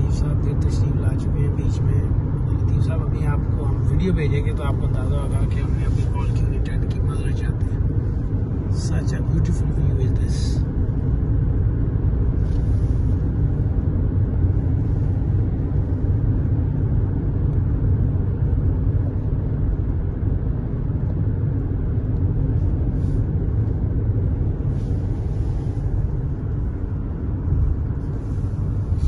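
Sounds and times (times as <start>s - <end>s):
car cabin road and engine rumble: 0.0s - 29.0s.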